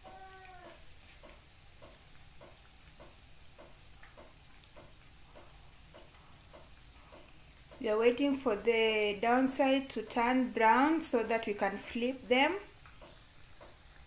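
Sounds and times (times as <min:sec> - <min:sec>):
dough frying in oil: 0:00.0 - 0:14.0.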